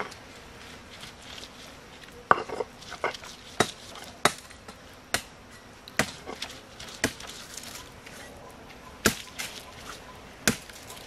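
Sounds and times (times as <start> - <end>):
faint background noise: 0.0 - 11.0.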